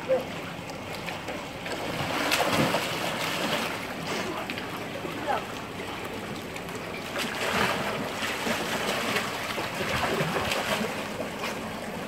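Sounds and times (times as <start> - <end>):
child swimming splashing water: 0.0 - 12.0.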